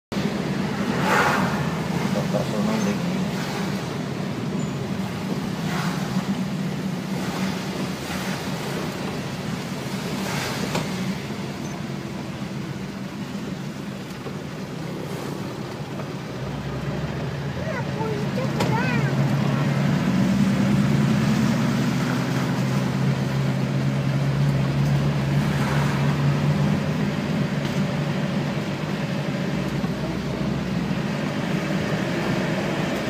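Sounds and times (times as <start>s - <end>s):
tyre noise on wet road: 0.1s - 33.0s
vehicle engine drone: 0.1s - 33.0s.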